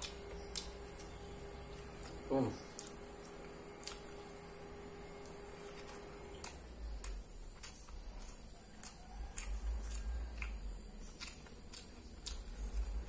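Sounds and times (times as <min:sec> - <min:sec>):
chewing crispy food crunches: 0:00.0 - 0:04.4, 0:05.1 - 0:13.0.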